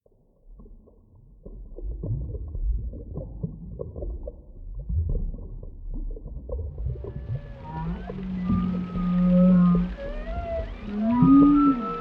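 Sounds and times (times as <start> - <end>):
deep underwater rumble: 0.5 - 12.0.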